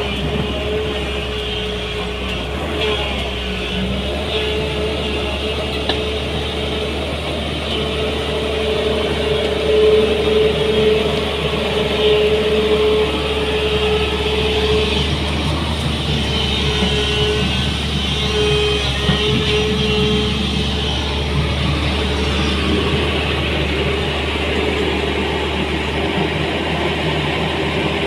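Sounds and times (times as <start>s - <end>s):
excavator diesel engine whining: 0.0s - 28.0s.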